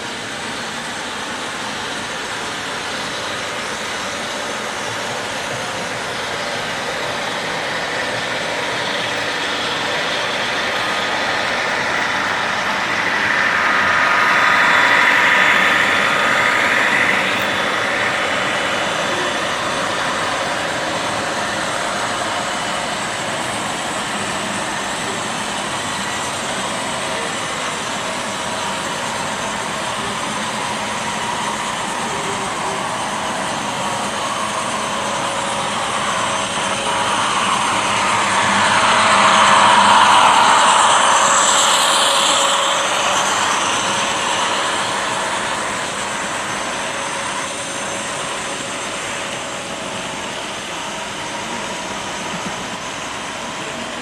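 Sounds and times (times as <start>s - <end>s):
model train motor whine: 0.0s - 54.0s.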